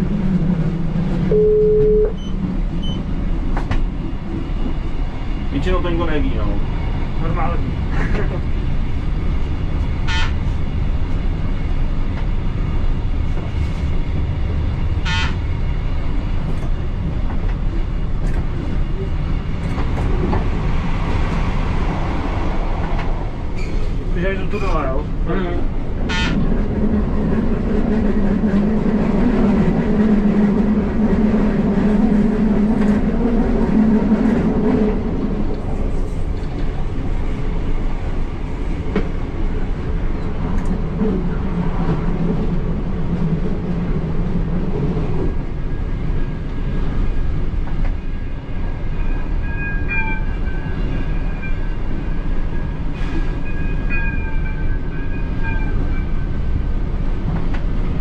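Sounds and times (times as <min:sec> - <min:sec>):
train running drone: 0:00.0 - 0:58.0.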